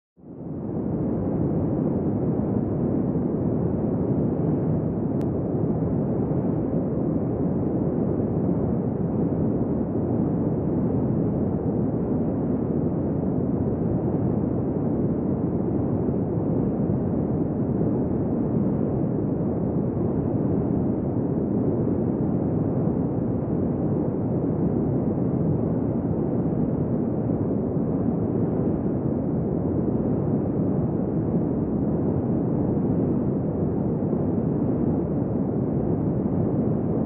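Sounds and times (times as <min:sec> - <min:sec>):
wind blowing steadily: 0:00.2 - 0:37.0.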